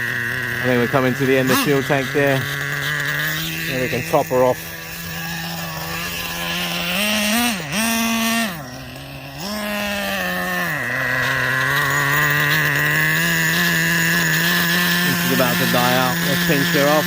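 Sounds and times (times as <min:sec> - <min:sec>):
nitro engine revving: 0:00.0 - 0:17.0.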